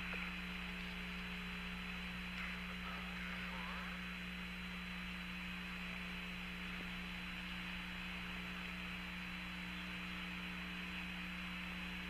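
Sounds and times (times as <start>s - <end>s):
radio static hiss and hum: 0.0s - 12.0s.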